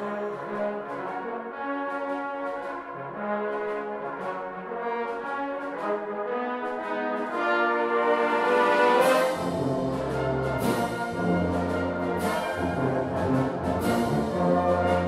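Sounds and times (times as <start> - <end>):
brass band playing chords: 0.0 - 15.0.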